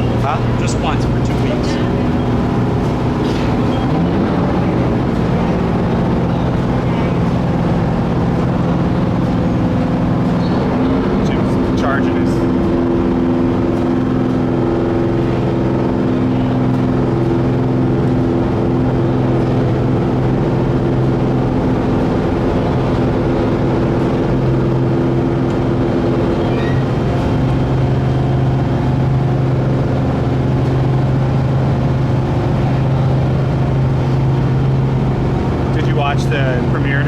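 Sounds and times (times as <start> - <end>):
large engine droning steadily: 0.0 - 37.0.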